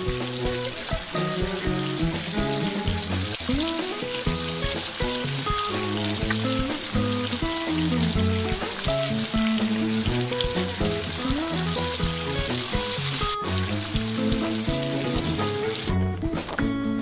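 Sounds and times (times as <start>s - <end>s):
bacon sizzling in a pan: 0.0s - 16.5s
background music: 0.0s - 17.0s.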